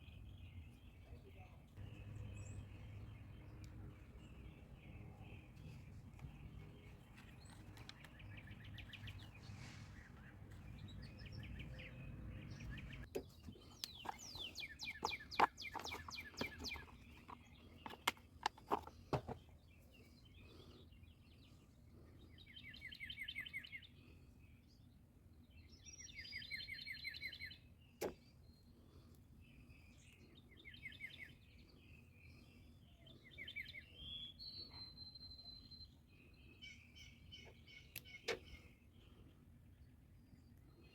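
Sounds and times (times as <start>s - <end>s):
outdoor background noise: 0.0s - 40.9s
small birds chirping: 0.0s - 40.9s.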